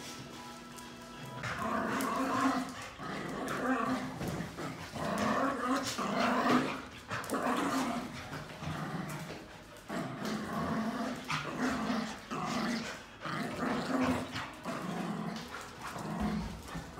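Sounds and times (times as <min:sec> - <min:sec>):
small dogs growling: 0:01.3 - 0:16.9.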